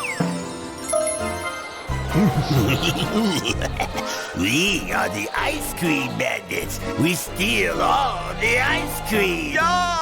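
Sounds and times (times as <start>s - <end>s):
cartoon background music: 0.0s - 10.0s.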